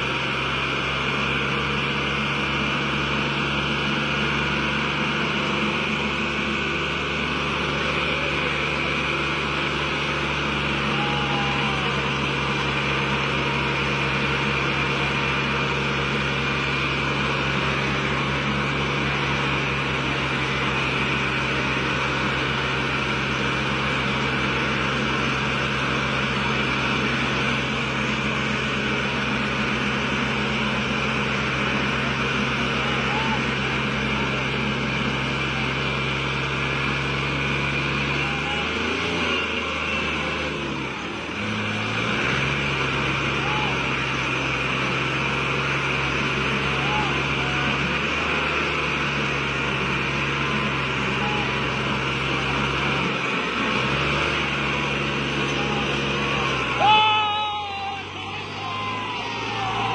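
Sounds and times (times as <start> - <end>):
diesel tractor engines labouring: 0.0 - 59.9.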